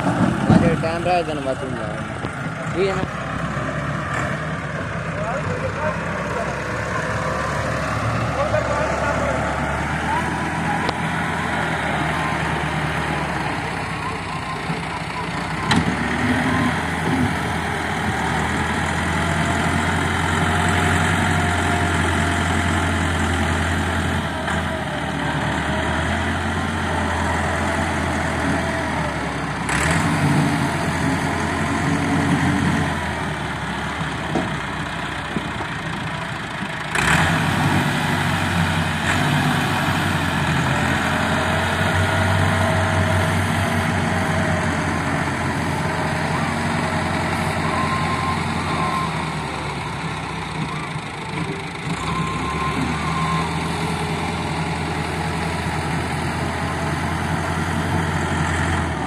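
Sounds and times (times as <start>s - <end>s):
diesel tractor engines: 0.0s - 59.0s.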